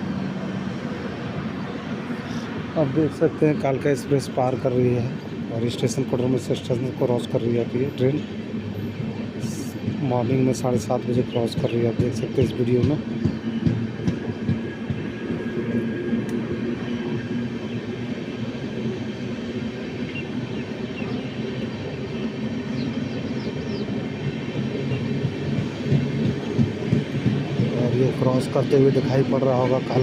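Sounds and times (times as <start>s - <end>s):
train rumbling past on rails: 0.0s - 30.0s.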